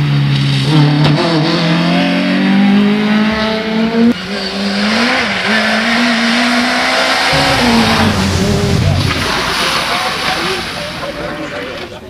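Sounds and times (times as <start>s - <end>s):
rally car engine accelerating: 0.0s - 10.8s.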